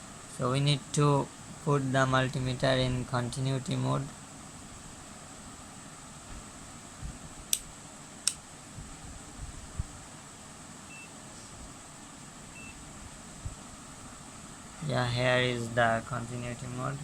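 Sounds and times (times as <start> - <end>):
steady hiss with high tone: 0.0 - 17.0.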